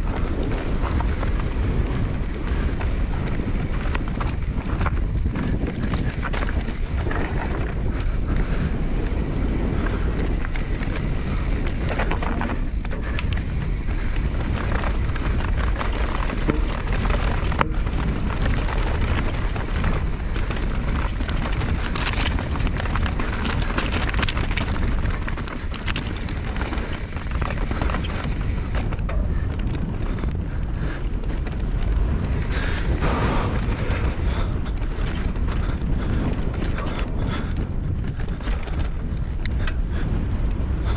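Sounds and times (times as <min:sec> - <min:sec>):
bike tyres rattling over stones: 0:00.0 - 0:40.9
wind buffeting microphone: 0:00.0 - 0:40.9
bike knocking: 0:00.1 - 0:40.0.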